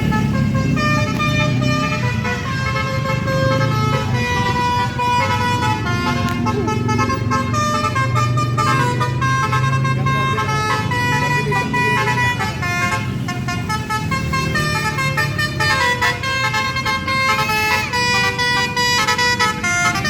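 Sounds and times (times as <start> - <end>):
low engine hum: 0.0 - 20.0
multi-tone horn playing a tune: 0.0 - 20.0.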